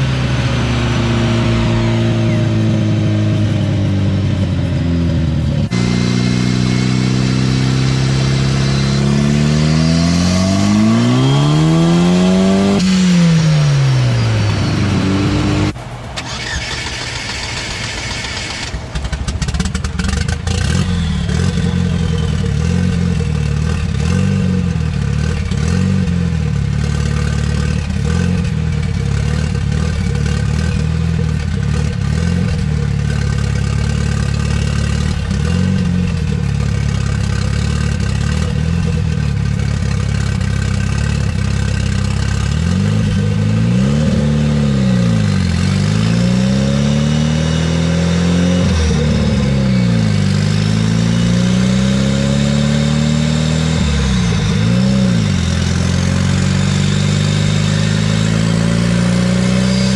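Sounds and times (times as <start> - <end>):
car engine idling: 0.0 - 46.2, 53.2 - 58.0
car engine revving: 0.0 - 59.9.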